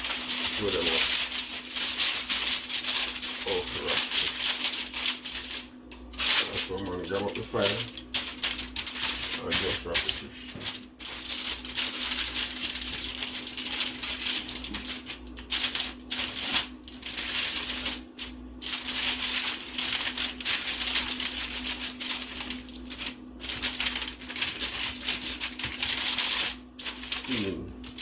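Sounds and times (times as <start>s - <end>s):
aluminium foil crinkling: 0.0s - 28.0s
steady low hum: 0.0s - 28.0s.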